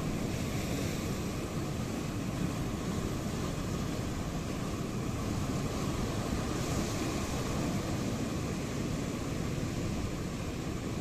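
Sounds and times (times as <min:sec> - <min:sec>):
sea waves breaking on shore: 0:00.0 - 0:11.0.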